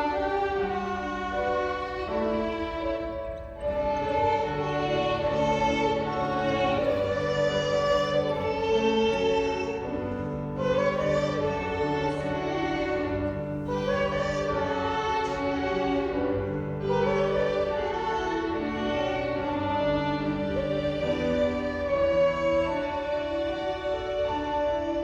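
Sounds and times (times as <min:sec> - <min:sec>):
violin ensemble playing: 0:00.0 - 0:25.0.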